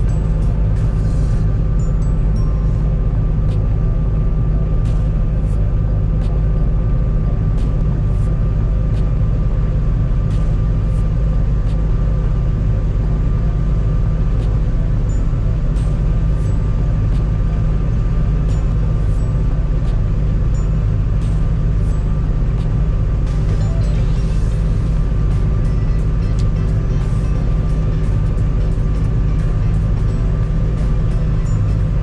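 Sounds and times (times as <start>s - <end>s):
faint steady whine: 0.0s - 32.0s
large vehicle engine droning: 0.0s - 32.0s.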